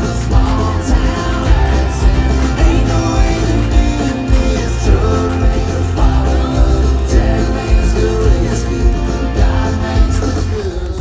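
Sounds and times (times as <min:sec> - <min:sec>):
country song with guitar and drums: 0:00.0 - 0:11.0.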